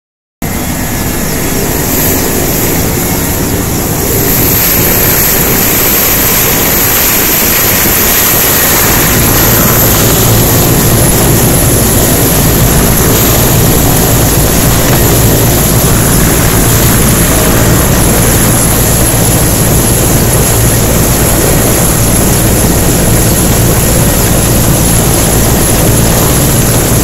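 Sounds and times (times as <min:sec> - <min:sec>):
helicopter rotor beat: 0:00.4 - 0:27.0
helicopter turbine whine: 0:00.4 - 0:27.0
rotor wash on microphone: 0:00.4 - 0:27.0.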